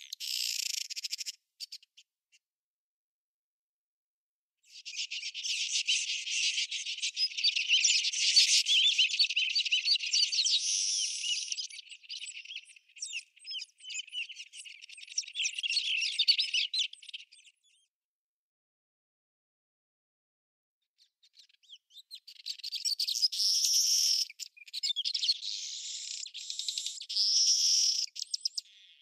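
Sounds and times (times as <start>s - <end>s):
small birds twittering: 0.0s - 2.0s, 4.7s - 17.9s, 21.0s - 29.0s.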